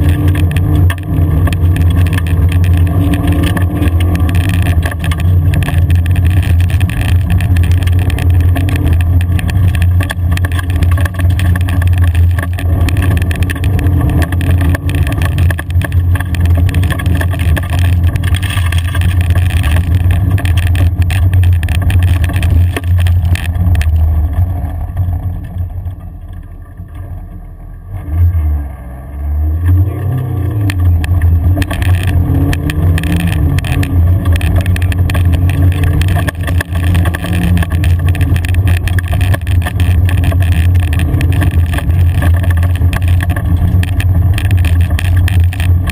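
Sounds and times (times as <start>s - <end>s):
car engine under load: 0.0s - 45.9s
tyres rumbling on gravel: 0.0s - 45.9s.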